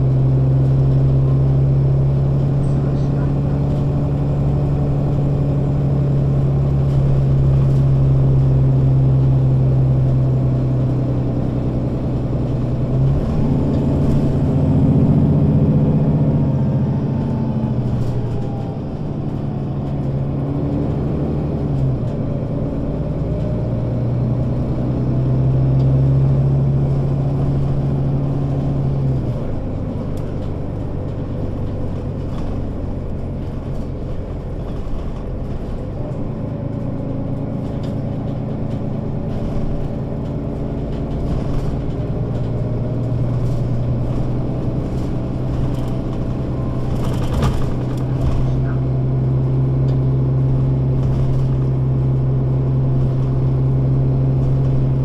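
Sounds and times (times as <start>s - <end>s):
bus engine droning: 0.0s - 55.0s.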